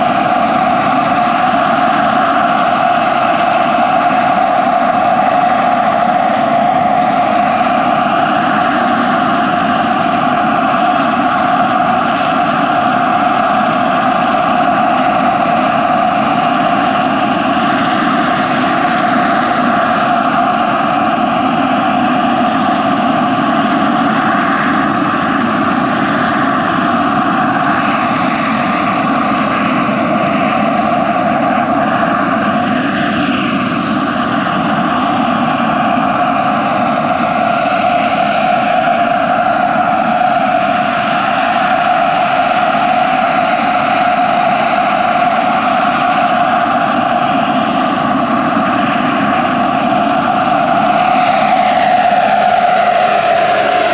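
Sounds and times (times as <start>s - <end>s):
model helicopter turbine and rotor: 0.0s - 53.9s
thin high whine: 0.0s - 53.9s.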